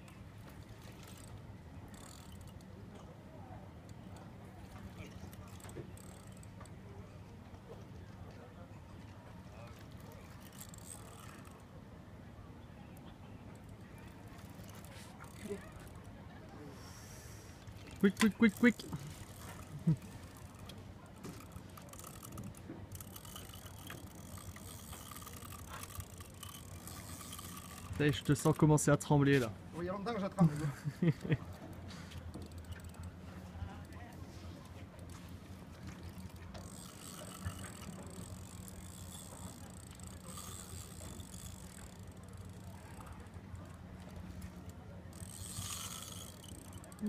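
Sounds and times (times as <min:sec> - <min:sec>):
fishing reel clicking: 0:00.5 - 0:02.8, 0:03.8 - 0:06.8, 0:09.7 - 0:11.6, 0:13.6 - 0:16.1, 0:17.5 - 0:28.7, 0:30.2 - 0:47.0.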